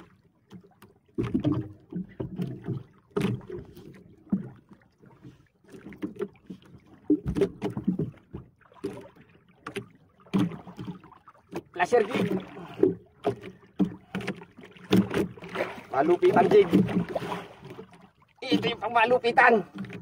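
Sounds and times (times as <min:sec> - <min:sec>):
water sloshing against hull: 0:00.0 - 0:20.0
knocks and thuds on wooden boat: 0:00.1 - 0:20.0.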